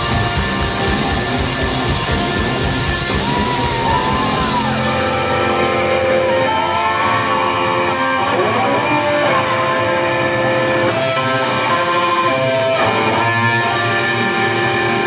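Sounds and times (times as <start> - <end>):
electric guitar bending notes: 0.0 - 15.0
rock band playing: 0.0 - 15.0.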